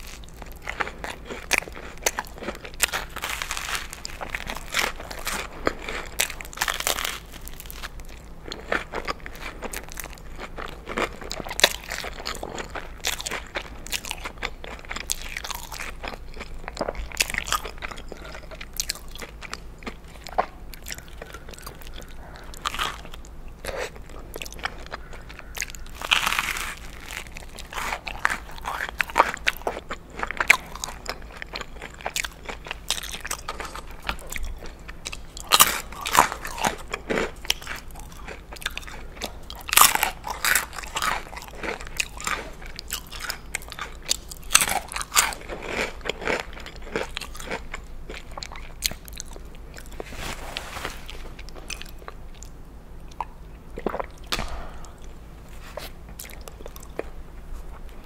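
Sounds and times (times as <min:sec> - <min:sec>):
chewing mouth sounds: 0:00.0 - 0:50.2, 0:51.0 - 0:58.0
crunching toasted bread: 0:00.0 - 0:52.6.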